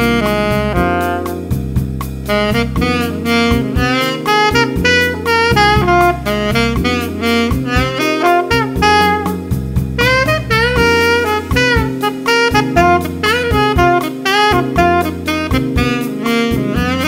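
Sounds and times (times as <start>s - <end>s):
backing track low chords: 0.0s - 17.0s
saxophone playing jazz: 0.0s - 17.0s.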